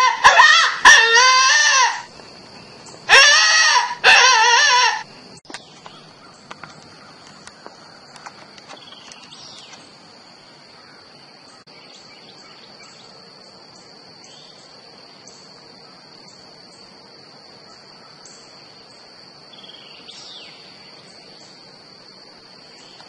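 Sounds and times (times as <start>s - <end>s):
crickets droning: 0.0s - 23.0s.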